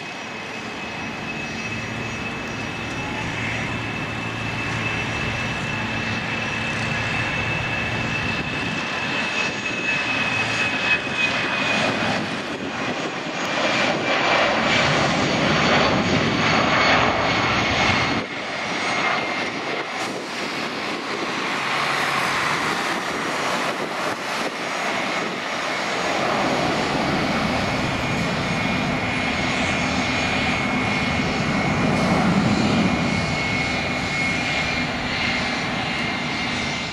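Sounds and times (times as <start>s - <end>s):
jet engine high whine: 0.0s - 36.9s.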